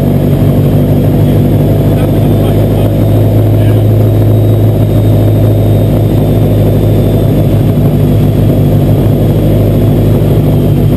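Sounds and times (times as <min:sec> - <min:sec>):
car engine running steadily: 0:00.0 - 0:10.9.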